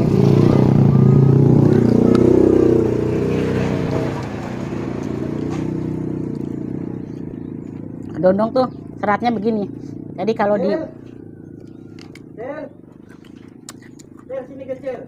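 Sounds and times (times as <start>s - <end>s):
passing vehicle engine: 0.0s - 14.7s.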